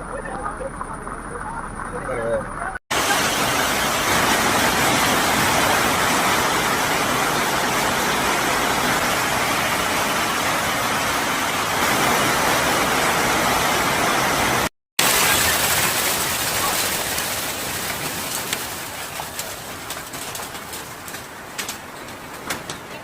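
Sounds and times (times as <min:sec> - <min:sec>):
hail pelting down: 0:02.9 - 0:23.0.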